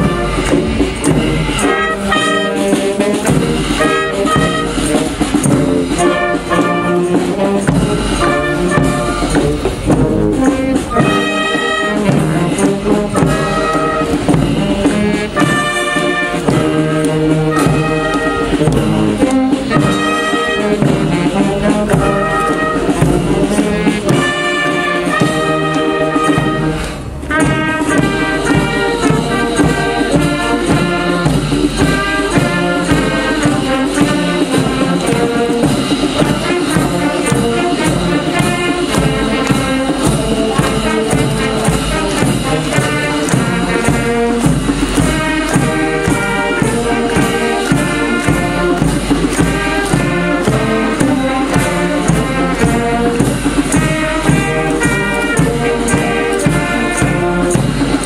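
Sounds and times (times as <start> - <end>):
marching wind band playing: 0.0 - 58.0
percussion beat: 0.0 - 58.0.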